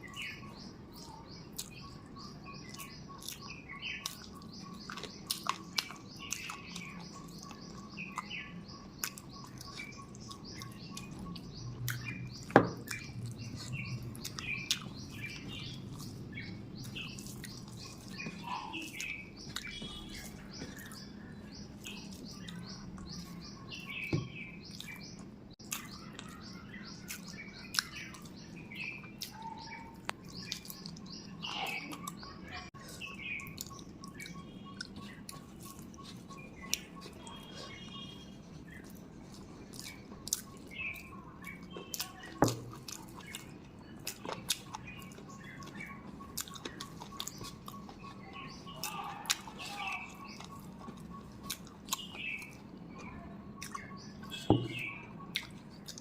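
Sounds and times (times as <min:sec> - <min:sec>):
birds chirping: 0:00.0 - 0:56.0
person eating by hand: 0:00.1 - 0:56.0.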